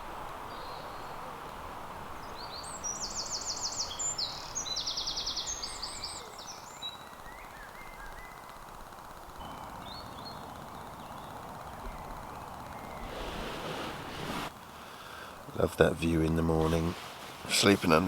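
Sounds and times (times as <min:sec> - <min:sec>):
songbird singing: 0:00.0 - 0:18.0
steady background hiss: 0:00.0 - 0:18.0.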